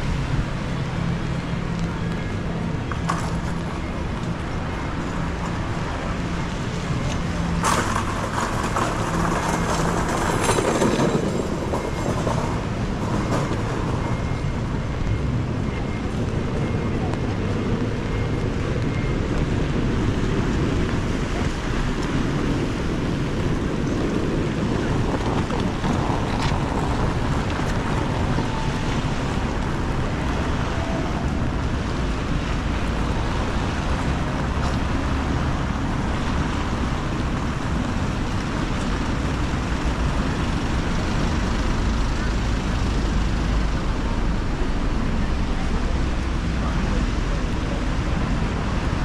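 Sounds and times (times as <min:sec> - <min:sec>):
car tyres on wet road: 0:00.0 - 0:49.0.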